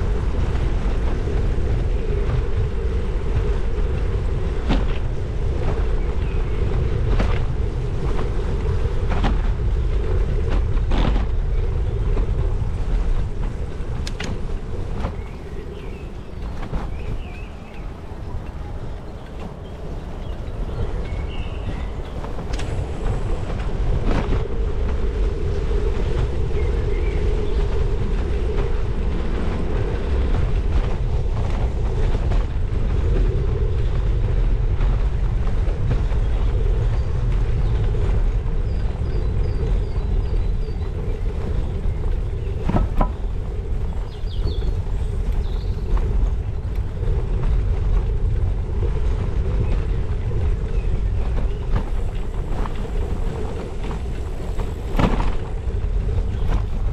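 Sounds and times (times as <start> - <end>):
bicycle tyres rolling on wet tarmac: 0.0 - 56.9
wind on microphone: 0.0 - 56.9.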